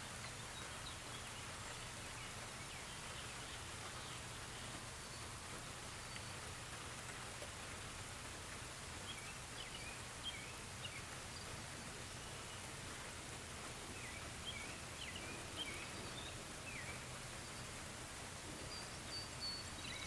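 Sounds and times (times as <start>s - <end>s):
light rain hissing: 0.0s - 20.0s.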